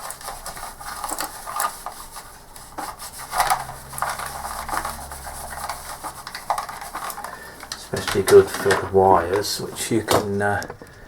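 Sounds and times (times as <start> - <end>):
wipe rustling and rubbing plastic: 0.0 - 10.8.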